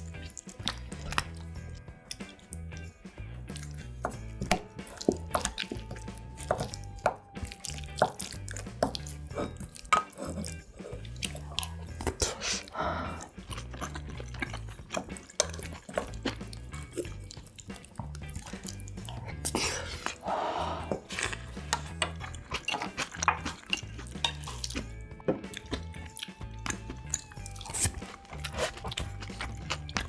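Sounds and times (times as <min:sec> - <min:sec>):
chewing and mouth smacks: 0:00.0 - 0:02.9, 0:03.5 - 0:20.2, 0:21.0 - 0:30.0
background music with bass line: 0:00.0 - 0:30.0.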